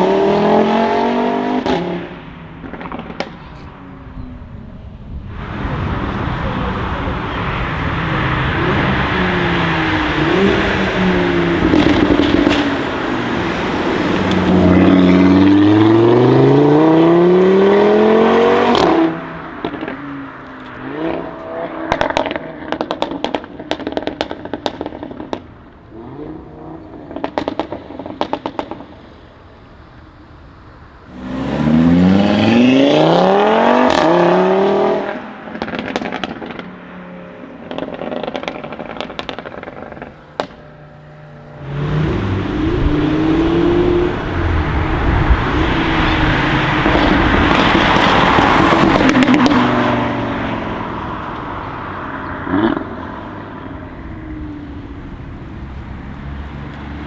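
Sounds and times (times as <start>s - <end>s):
car engine accelerating hard: 0.0s - 57.0s
exhaust pops and crackles: 0.0s - 57.0s.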